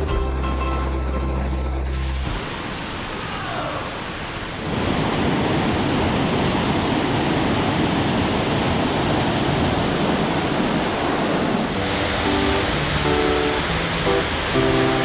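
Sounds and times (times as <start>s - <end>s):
waterfall rushing: 1.9s - 15.0s.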